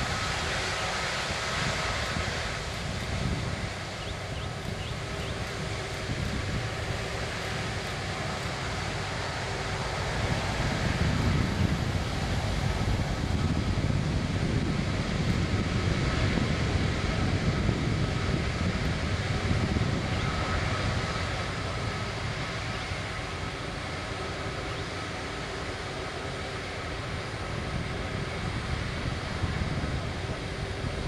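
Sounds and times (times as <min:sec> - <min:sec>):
jet engines at low thrust: 0:00.0 - 0:31.0.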